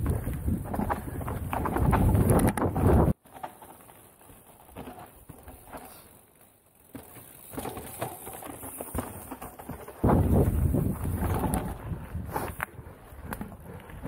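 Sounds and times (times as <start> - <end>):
bike knocks and rattles: 0.0 - 14.0
bike tyres crunching over rock: 0.0 - 14.0.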